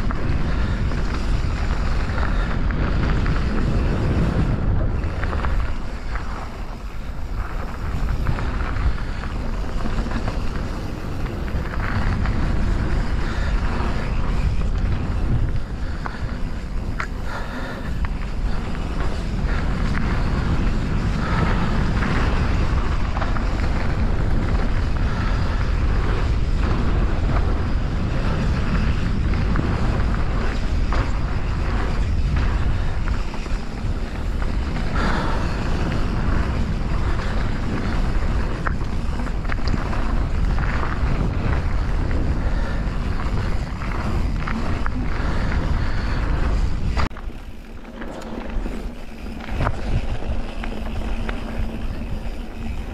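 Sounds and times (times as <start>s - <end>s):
bike rattling over bumps: 0.0s - 52.9s
wind rumbling on microphone: 0.0s - 52.9s.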